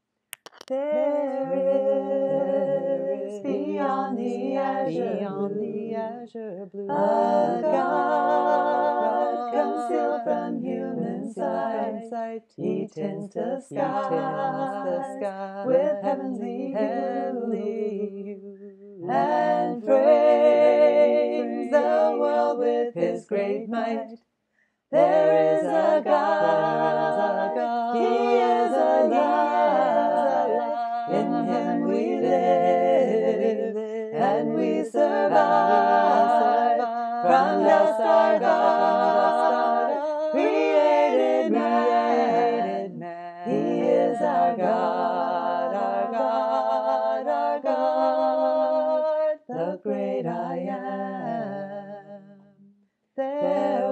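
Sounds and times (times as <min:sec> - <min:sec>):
woman singing a cappella hymn: 0:00.7 - 0:24.2, 0:24.9 - 0:52.4, 0:53.2 - 0:53.9.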